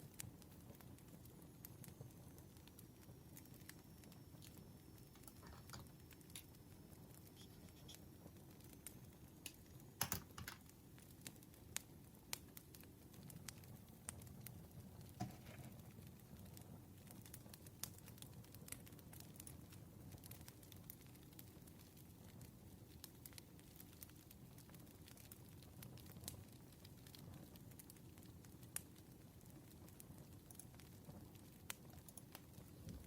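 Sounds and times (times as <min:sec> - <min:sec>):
burning wood crackling and popping: 0:00.0 - 0:33.0
rumble of campfire flames: 0:00.0 - 0:33.0.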